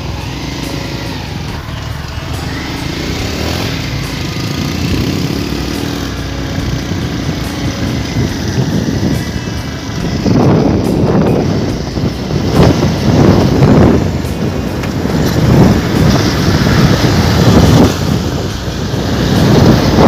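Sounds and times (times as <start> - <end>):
road and air noise: 0.0 - 20.0
small motorbike engine running: 0.0 - 20.0.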